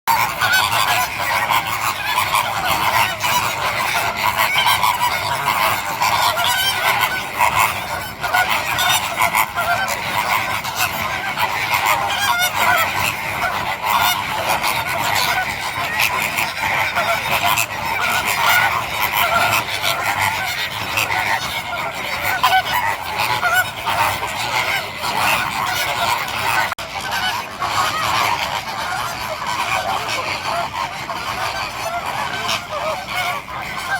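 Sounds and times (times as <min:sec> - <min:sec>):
chorus of birds calling: 0:00.1 - 0:33.9.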